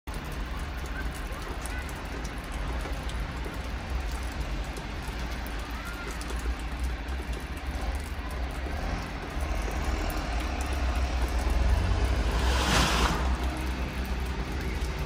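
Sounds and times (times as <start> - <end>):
water drops dripping: 0.1 - 15.0.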